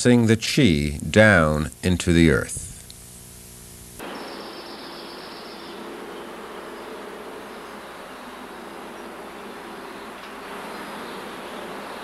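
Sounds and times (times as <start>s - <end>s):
even hiss: 0.0s - 12.0s
faint buzzing drone: 0.0s - 12.0s.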